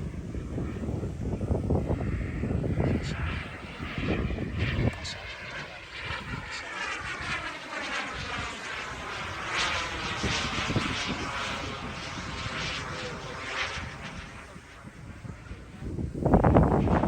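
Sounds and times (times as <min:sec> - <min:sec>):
model jet turbine whining: 0:00.0 - 0:17.0.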